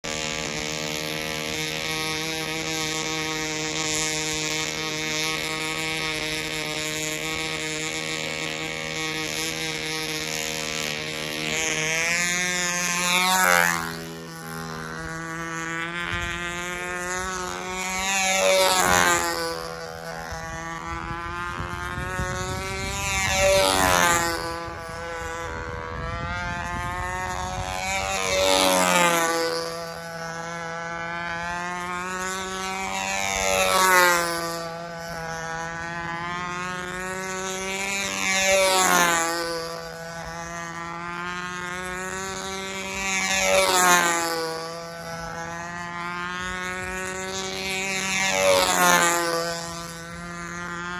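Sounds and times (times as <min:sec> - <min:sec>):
model aircraft engine running: 0:00.0 - 0:50.9.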